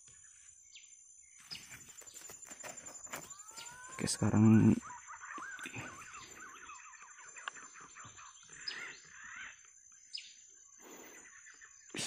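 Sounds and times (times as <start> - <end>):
birds chirping and twittering: 0.0 - 12.0
steady high-pitched whine: 0.0 - 12.0.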